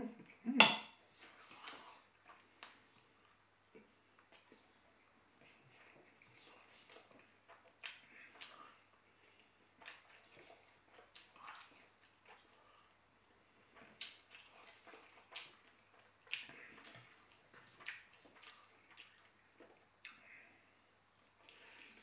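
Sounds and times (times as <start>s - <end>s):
wet chewing and mouth smacks: 1.1s - 22.0s.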